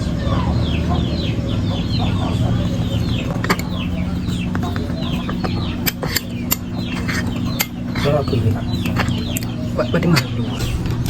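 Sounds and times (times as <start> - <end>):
chicks peeping: 0.0 - 11.0
low steady hum: 0.0 - 11.0.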